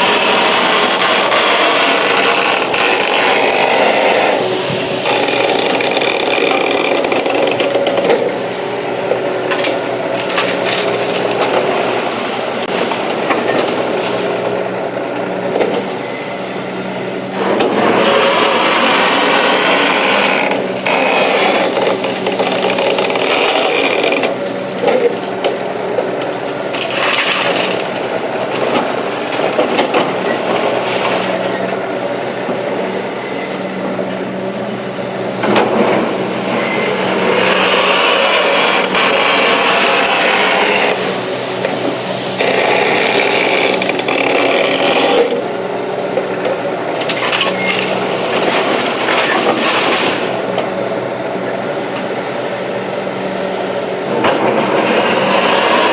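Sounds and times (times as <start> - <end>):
excavator diesel engine under load: 0.0 - 55.9.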